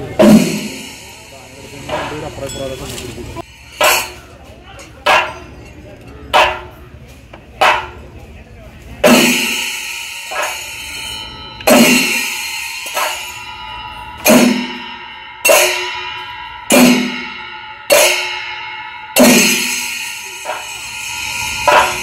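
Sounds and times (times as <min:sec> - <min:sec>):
metallic clanging strokes: 0:00.0 - 0:06.8, 0:09.0 - 0:22.0.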